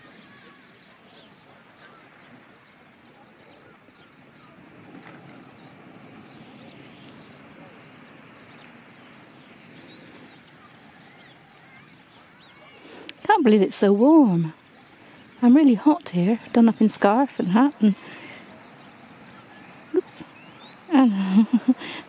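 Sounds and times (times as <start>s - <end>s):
low steady background rush: 0.0s - 22.0s
starlings chattering: 0.0s - 22.0s.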